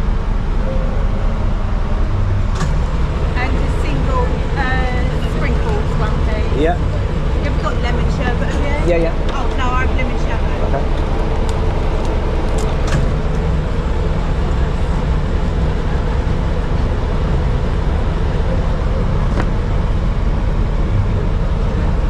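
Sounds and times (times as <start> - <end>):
van engine running: 0.0 - 22.0.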